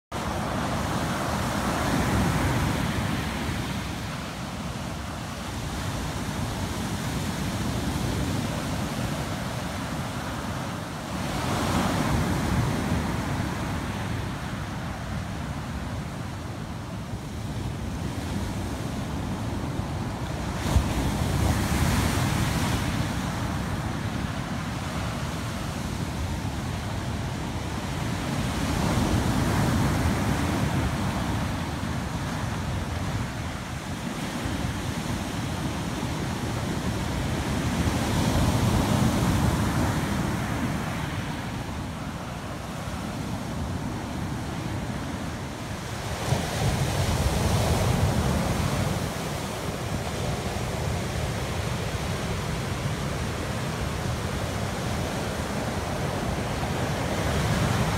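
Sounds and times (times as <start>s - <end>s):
ocean waves breaking: 0.1s - 57.9s.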